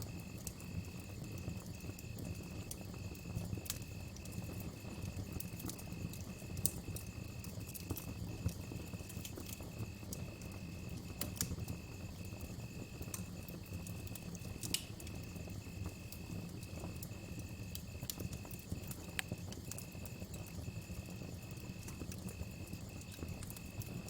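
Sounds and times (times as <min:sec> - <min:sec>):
campfire crackling and popping: 0:00.0 - 0:24.0
crickets trilling: 0:00.0 - 0:24.0.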